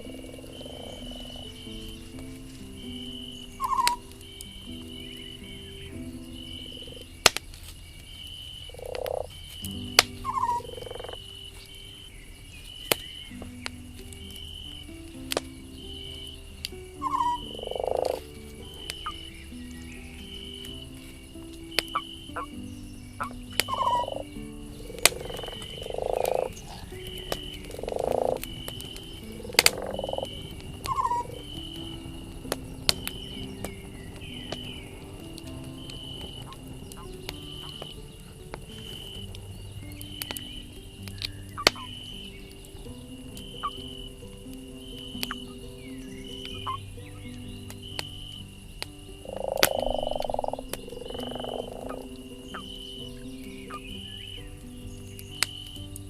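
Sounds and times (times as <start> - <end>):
campfire crackling: 0.0 - 56.0
fire popping: 0.0 - 56.0
frog croaking: 0.0 - 56.0
high chirps chorus: 0.0 - 56.0.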